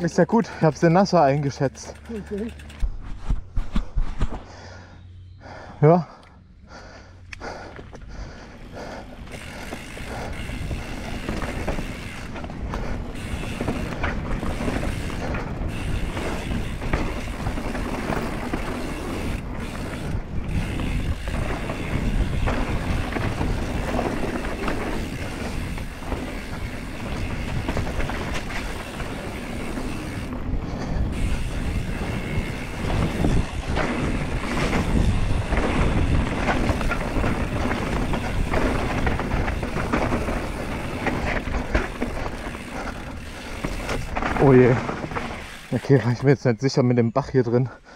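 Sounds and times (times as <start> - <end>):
bike rattling and knocking: 0.0 - 4.6, 7.4 - 47.8
tyres rumbling over dirt: 8.0 - 46.5.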